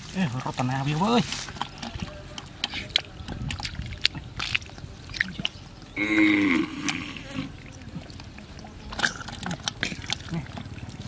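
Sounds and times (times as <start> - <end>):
hands squelching in wet mud: 0.0 - 11.0.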